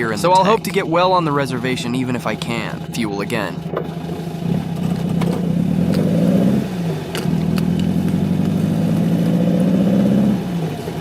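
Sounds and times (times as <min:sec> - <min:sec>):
car engine pulling under load: 0:00.0 - 0:11.0.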